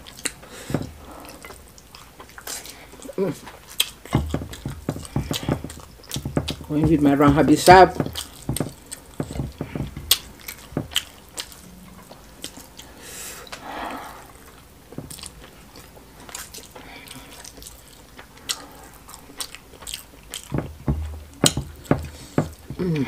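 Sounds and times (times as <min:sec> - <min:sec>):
wet chewing and lip smacking: 0:00.0 - 0:06.7, 0:08.0 - 0:13.6, 0:14.3 - 0:20.6.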